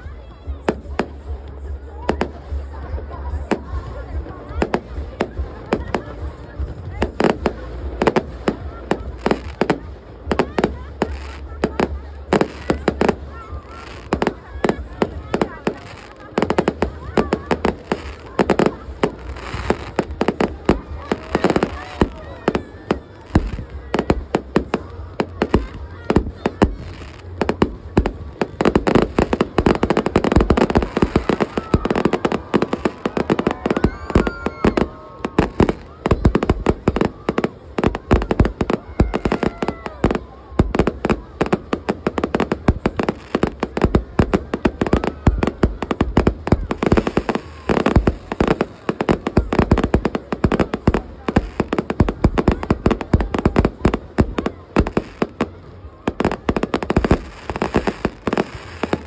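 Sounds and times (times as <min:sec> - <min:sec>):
crowd voices: 0:00.0 - 0:59.0
fireworks bursting in bangs: 0:00.0 - 0:59.0.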